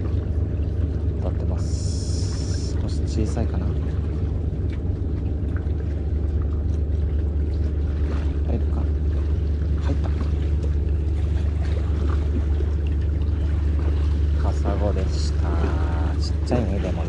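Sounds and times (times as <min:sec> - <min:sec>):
small splashes: 0:00.0 - 0:17.0
steady low rumble: 0:00.0 - 0:17.0
water lapping and sloshing: 0:00.0 - 0:17.0.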